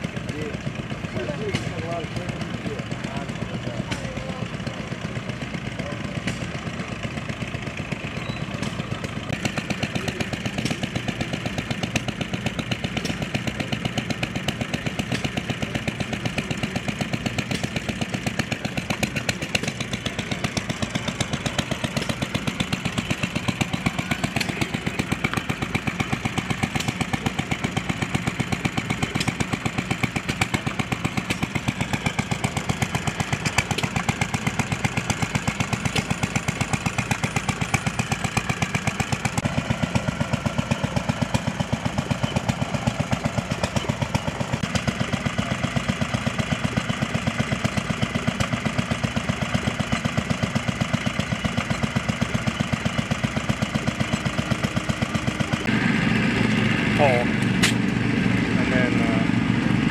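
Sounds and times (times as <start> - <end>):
small gas engines running: 0.0 - 59.9.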